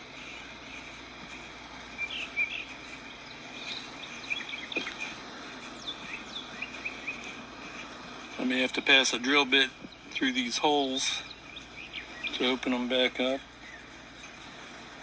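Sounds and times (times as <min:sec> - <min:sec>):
birds chirping and whistling: 0:00.0 - 0:14.8
high insect drone: 0:00.0 - 0:15.0.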